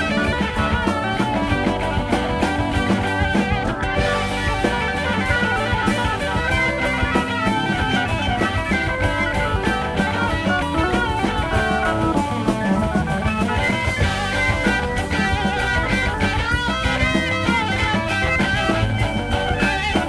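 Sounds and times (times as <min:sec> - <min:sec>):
drum kit beat: 0:00.0 - 0:20.0
rock guitar: 0:00.0 - 0:20.0.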